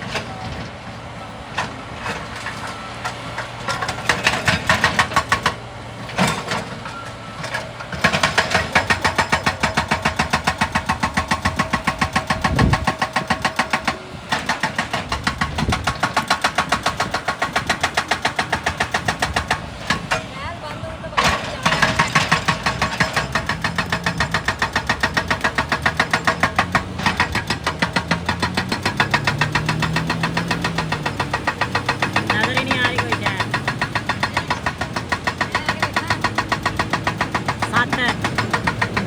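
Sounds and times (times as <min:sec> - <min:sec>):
excavator engine: 0:00.0 - 0:39.0
hydraulic breaker hammering rock: 0:01.5 - 0:39.0.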